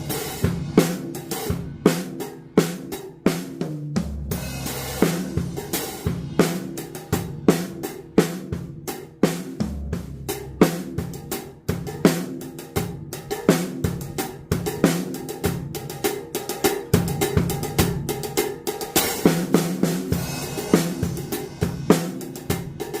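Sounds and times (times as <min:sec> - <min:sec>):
drum kit playing: 0:00.0 - 0:23.0.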